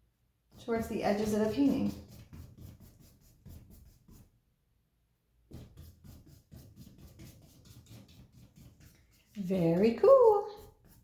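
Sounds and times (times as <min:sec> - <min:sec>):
paintbrush scrubbing on canvas: 0:00.5 - 0:04.3, 0:05.5 - 0:11.0.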